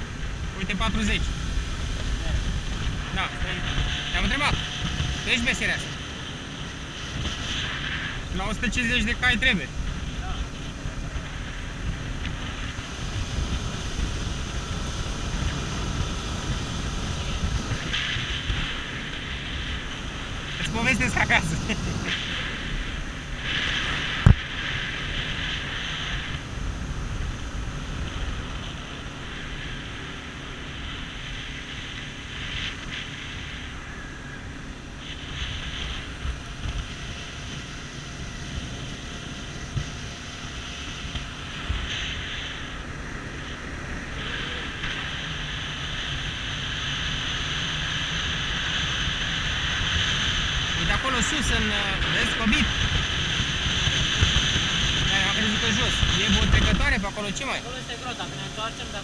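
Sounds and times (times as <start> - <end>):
motorboat engine drone: 0.0 - 59.0
water rushing along hull: 0.0 - 59.0
wind buffeting microphone: 0.0 - 59.0.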